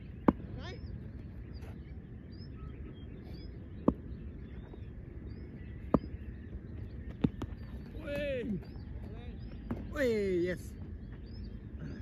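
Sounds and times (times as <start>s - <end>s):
birds chirping: 0.0s - 12.0s
low background rumble: 0.0s - 12.0s.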